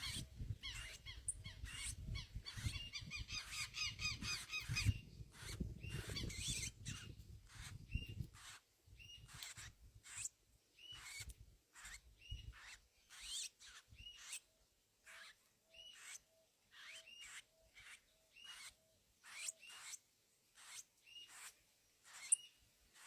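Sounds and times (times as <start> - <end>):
songbirds calling: 0.0 - 23.0.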